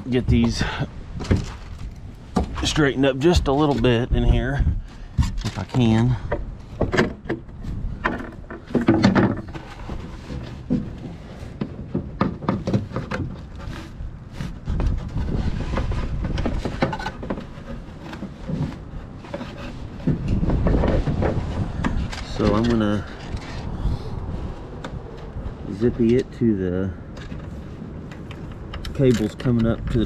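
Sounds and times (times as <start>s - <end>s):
clicks and rustling of wiring: 0.2s - 4.1s, 5.2s - 23.7s, 27.1s - 30.0s.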